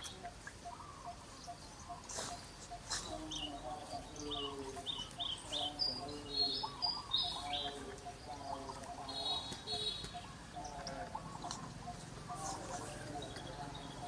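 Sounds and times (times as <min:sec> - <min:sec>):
lower wavering animal calls: 0:00.0 - 0:14.0.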